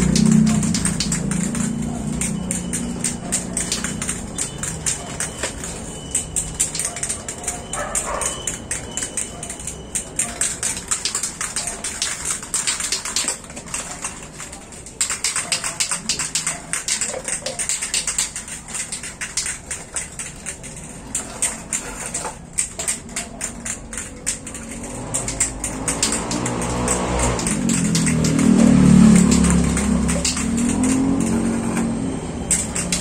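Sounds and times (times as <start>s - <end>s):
spray paint can rattling: 0.0s - 33.0s.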